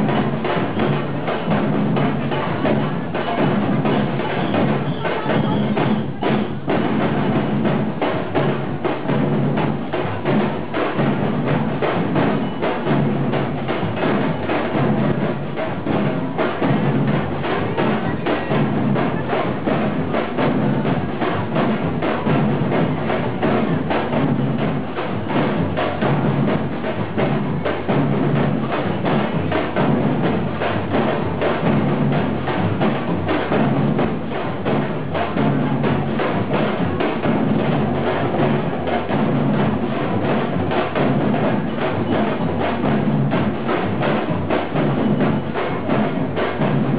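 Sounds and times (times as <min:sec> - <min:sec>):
percussion music with steady beat: 0:00.0 - 0:46.9.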